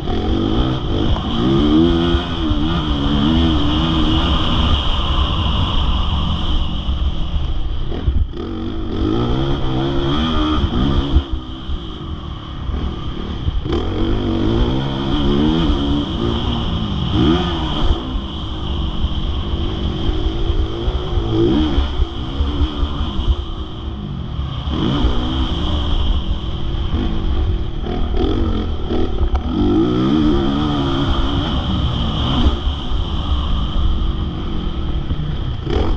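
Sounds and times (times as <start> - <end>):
low rumble of wind: 0.0 - 35.9
motocross bike engine revving: 0.0 - 35.9.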